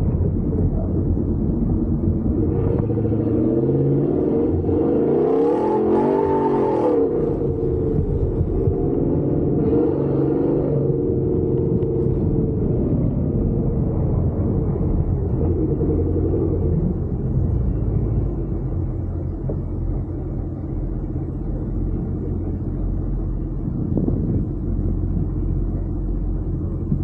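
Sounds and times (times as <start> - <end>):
truck engine running: 0.0 - 4.9, 7.0 - 27.0.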